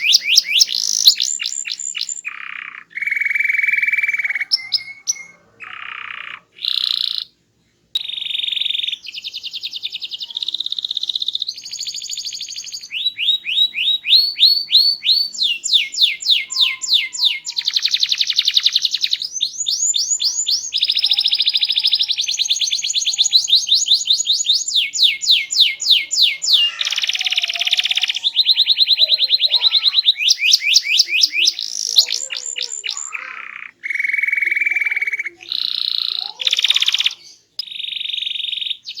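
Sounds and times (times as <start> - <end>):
canary singing: 0.0 - 39.0.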